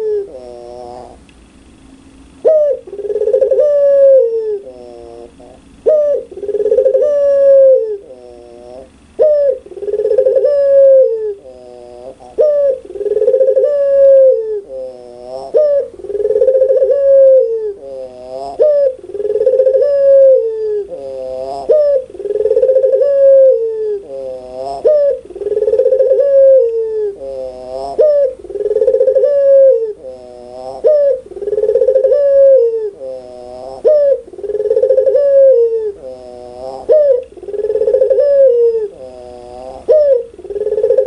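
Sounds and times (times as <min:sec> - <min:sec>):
dove cooing: 0:00.0 - 0:01.3, 0:02.1 - 0:41.0.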